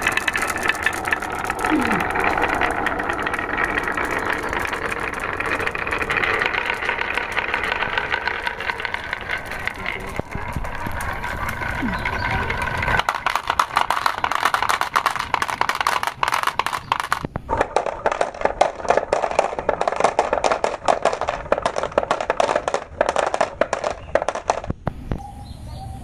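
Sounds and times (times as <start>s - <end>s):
marbles clacking on wooden track: 0.0s - 25.1s
marbles dropping into plastic truck: 0.0s - 25.1s.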